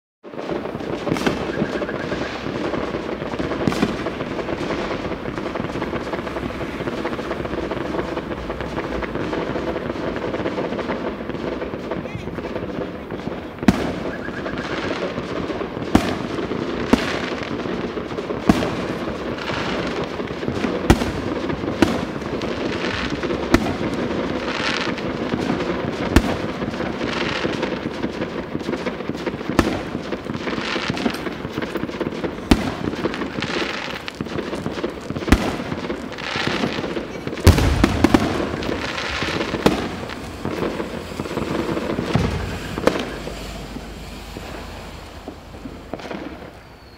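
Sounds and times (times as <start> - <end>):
fireworks sharp bangs: 0.2 - 46.9
heavy firework boom: 0.3 - 46.9
small firework pops: 0.3 - 46.9.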